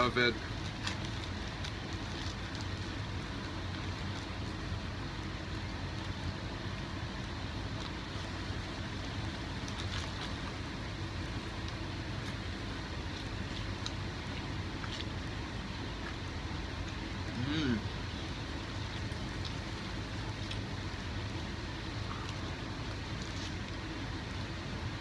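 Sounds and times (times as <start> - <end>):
outdoor background rumble: 0.0 - 25.0.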